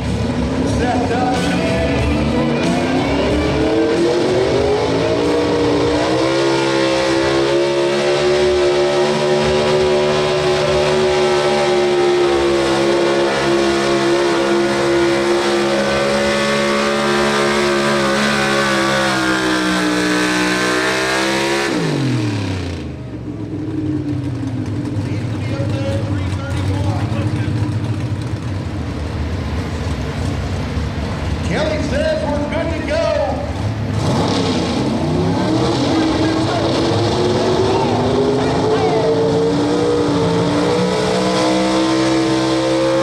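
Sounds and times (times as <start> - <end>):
truck engine revving under load: 0.0 - 43.0.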